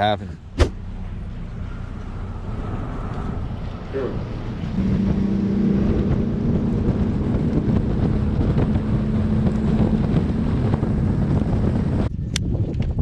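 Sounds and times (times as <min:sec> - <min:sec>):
wind buffeting microphone: 0:00.7 - 0:13.0
outboard motor running: 0:00.8 - 0:12.1.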